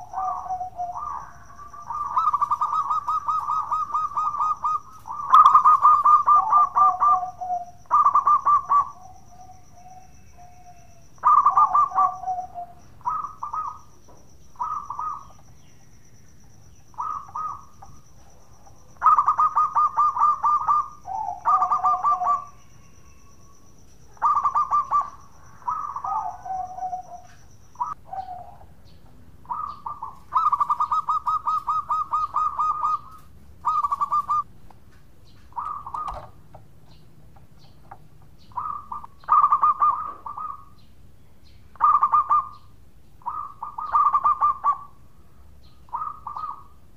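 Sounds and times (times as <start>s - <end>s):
dove cooing: 0.0s - 13.9s, 14.6s - 15.6s, 16.9s - 23.4s, 24.1s - 34.5s, 35.5s - 36.4s, 37.6s - 40.8s, 41.7s - 45.0s, 45.9s - 46.8s.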